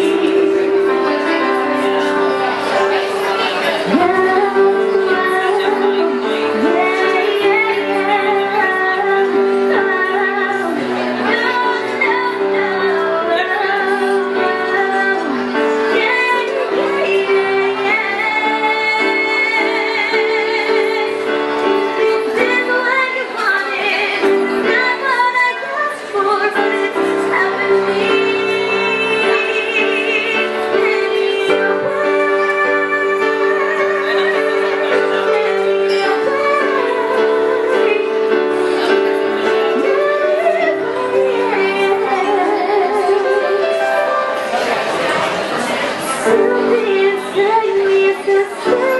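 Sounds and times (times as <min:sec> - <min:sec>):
woman singing into a microphone: 0:00.0 - 0:44.6, 0:45.6 - 0:48.9
digital piano chords: 0:00.0 - 0:48.9.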